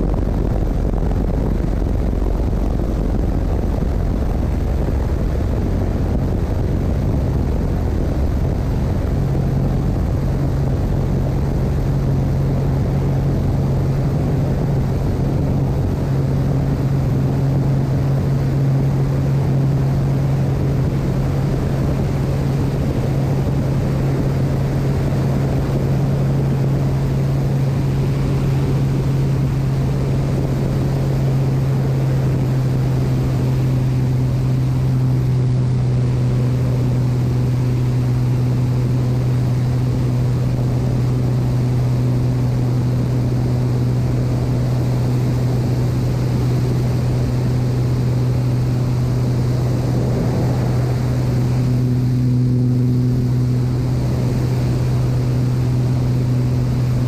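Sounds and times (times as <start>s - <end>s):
aircraft engine and propeller drone: 0.0s - 57.0s
rushing air noise: 0.0s - 57.0s.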